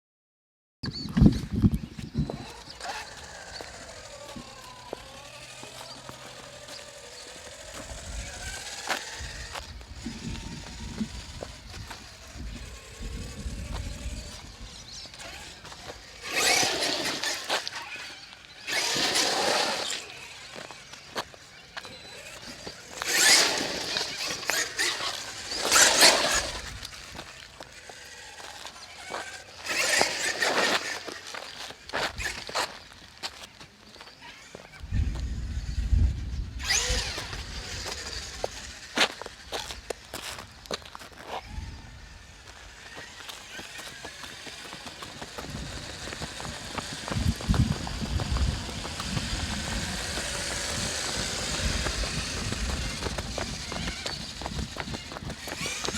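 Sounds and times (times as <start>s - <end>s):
electric motor whining: 1.2s - 55.9s
tyres skidding on pavement: 2.3s - 34.7s, 36.6s - 55.9s.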